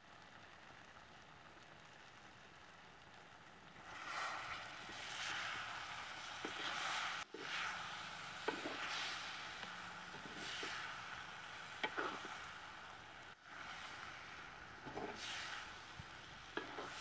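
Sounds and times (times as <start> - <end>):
food sizzling in oil: 1.9 - 17.0.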